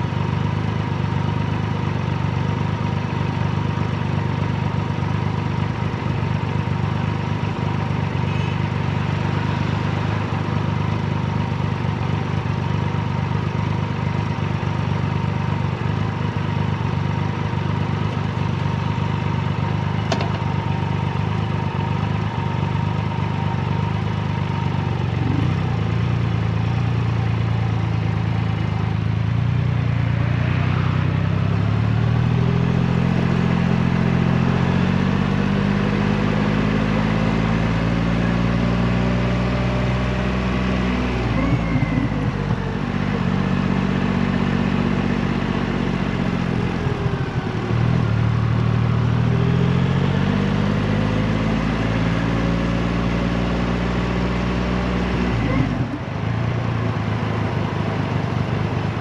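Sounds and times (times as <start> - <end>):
motorcycle engine on the road: 0.0 - 59.0.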